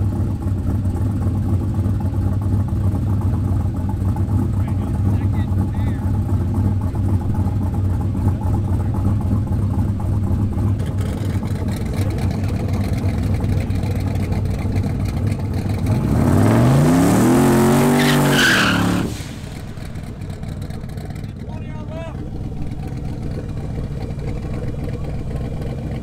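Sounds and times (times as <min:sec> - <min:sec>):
pickup engine idling and revving: 0:00.0 - 0:26.0.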